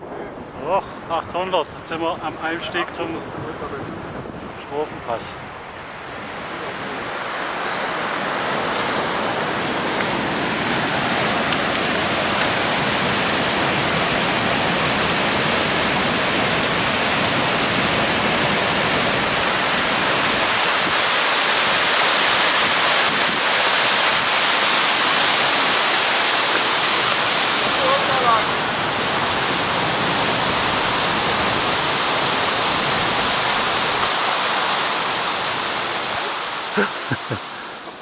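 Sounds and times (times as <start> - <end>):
stream rushing over rocks: 0.6 - 38.0.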